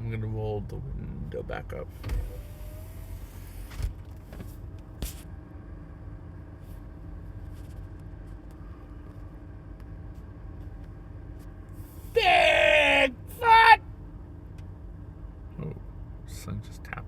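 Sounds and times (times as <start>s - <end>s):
car idling hum: 0.0s - 17.0s.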